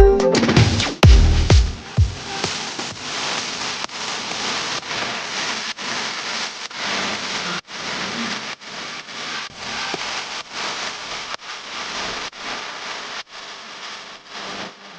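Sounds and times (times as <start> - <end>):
steady rain-like hiss: 1.2 - 14.9.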